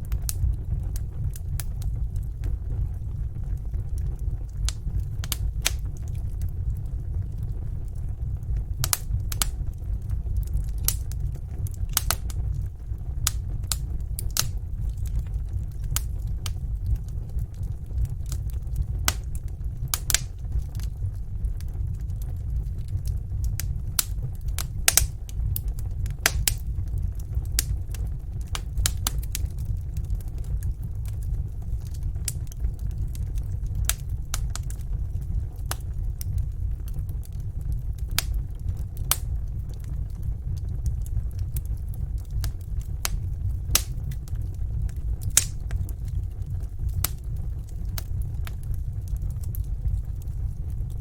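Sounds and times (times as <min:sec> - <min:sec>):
low rumble: 0:00.0 - 0:51.0
wood fire crackling and popping: 0:00.0 - 0:51.0.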